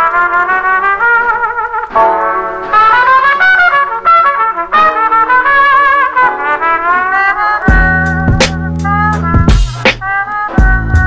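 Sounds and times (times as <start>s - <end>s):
background music with wavering melody: 1.7s - 11.0s.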